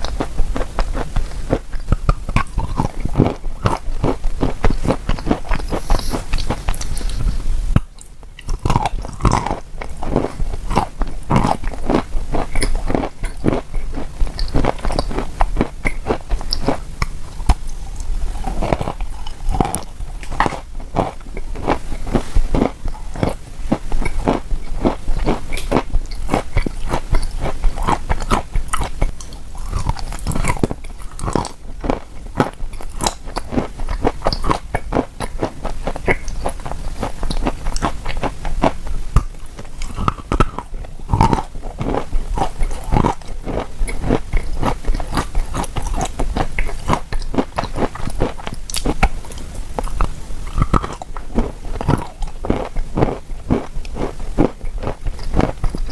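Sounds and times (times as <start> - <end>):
chalk crunching while chewed: 0.0 - 55.9.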